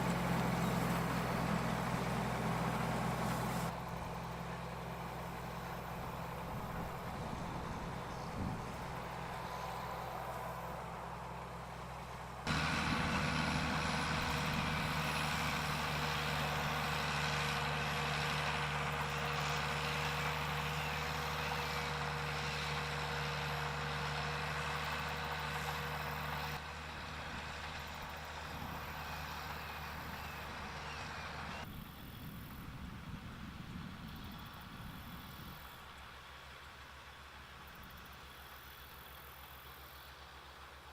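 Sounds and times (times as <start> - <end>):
farm machinery engine humming: 0.0 - 40.9.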